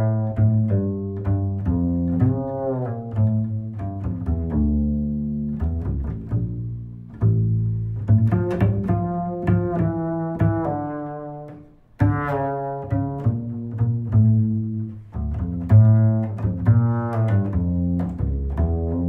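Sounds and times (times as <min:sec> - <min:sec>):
low string instrument notes: 0:00.0 - 0:19.0.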